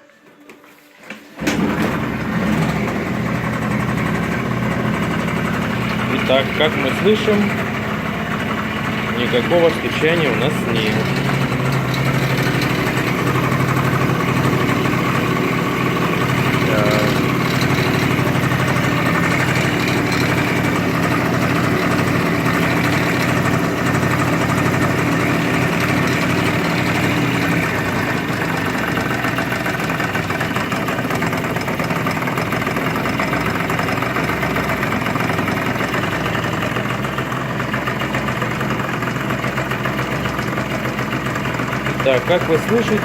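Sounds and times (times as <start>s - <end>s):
scooter engine idling: 1.3s - 43.0s.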